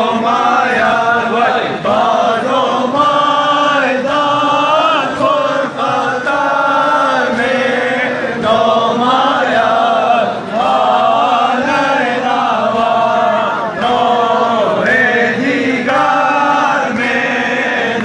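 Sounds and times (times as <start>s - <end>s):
crowd of men chanting: 0.0s - 18.0s.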